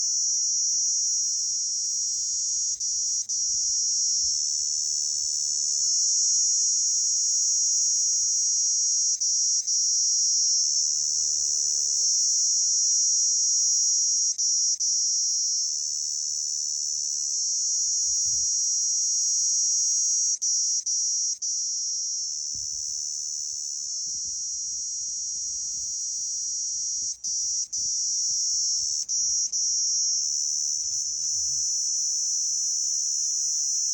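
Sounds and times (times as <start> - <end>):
crickets trilling: 0.0 - 33.9.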